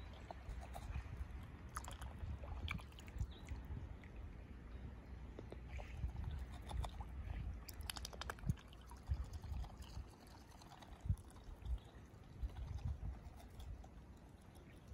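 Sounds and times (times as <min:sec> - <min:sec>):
water lapping against rock: 0:00.0 - 0:04.2, 0:05.5 - 0:14.7
sharp little splashes and drips: 0:01.6 - 0:04.3, 0:05.4 - 0:14.9.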